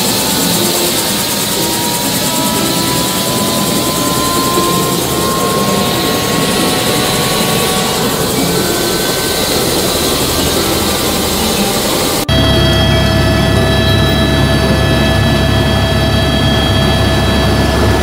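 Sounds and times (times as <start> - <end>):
faint whine: 0.0 - 18.0
helicopter engine and rotor noise: 0.0 - 18.0.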